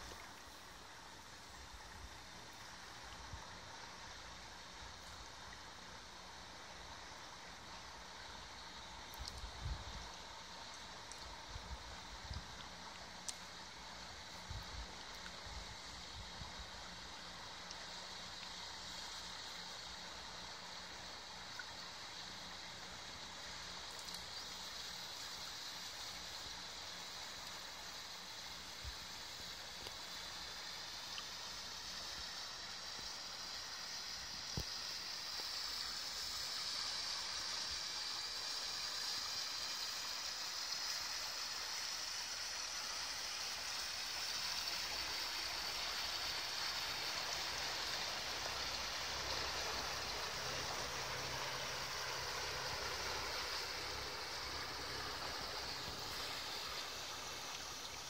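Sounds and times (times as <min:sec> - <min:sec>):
water rushing from hull: 0:10.8 - 0:58.0.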